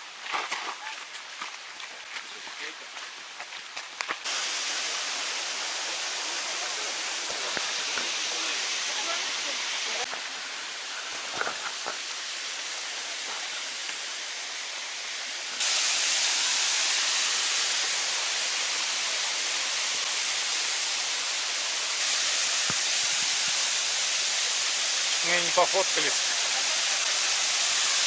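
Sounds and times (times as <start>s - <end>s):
flowing water: 4.2s - 28.0s.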